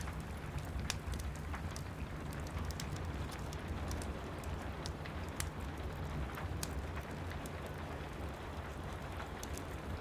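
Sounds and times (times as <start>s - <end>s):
steady rain: 0.0s - 10.0s
wood fire crackling: 0.0s - 10.0s.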